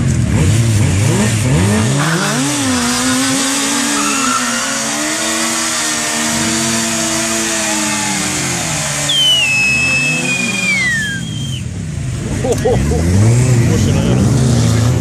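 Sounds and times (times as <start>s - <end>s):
motorcycle engines revving: 0.0s - 15.0s
motorcycle tyre burnout: 0.1s - 15.0s.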